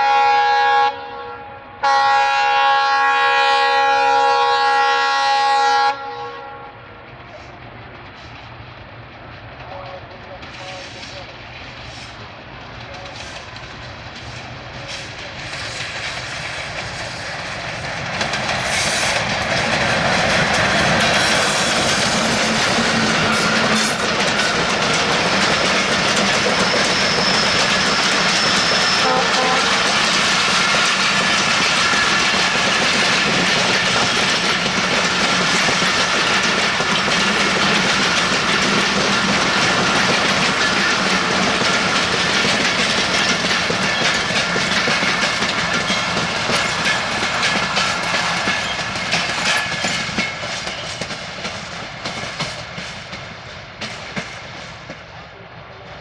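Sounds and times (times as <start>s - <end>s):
train rush and rumble: 0.0s - 56.0s
wheels clacking over rail joints: 7.0s - 55.1s.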